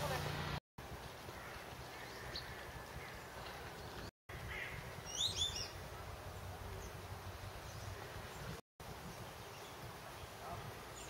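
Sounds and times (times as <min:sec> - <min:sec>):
outdoor background noise: 0:00.0 - 0:11.0
birds chirping: 0:01.1 - 0:11.0.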